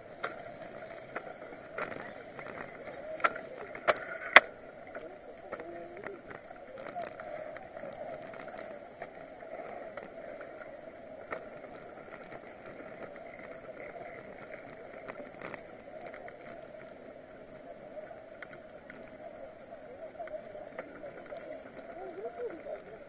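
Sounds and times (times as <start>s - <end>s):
bicycle tyres humming on asphalt: 0.0s - 23.0s.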